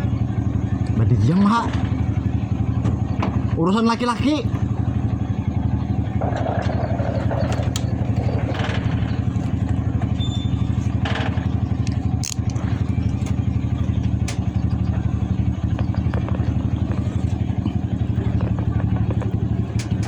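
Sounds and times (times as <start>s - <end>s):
vehicle engine running: 0.0s - 20.0s
knocks and rattles: 1.4s - 3.6s, 6.0s - 20.0s.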